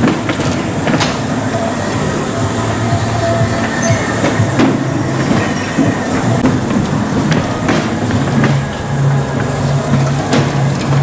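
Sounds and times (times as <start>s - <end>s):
bumper cars rumbling hum: 0.0s - 11.0s.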